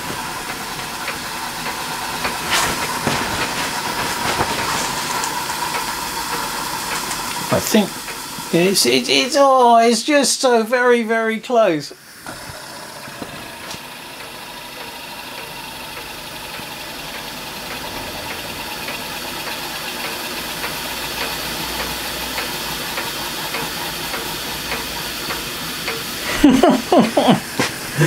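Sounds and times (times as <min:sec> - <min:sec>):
steam hissing from nozzles: 0:00.0 - 0:10.6, 0:11.9 - 0:28.0.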